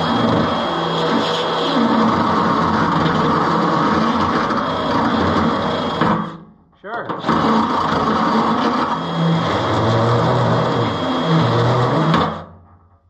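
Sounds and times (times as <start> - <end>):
electric hand drill running: 0.0 - 6.3, 7.2 - 12.5.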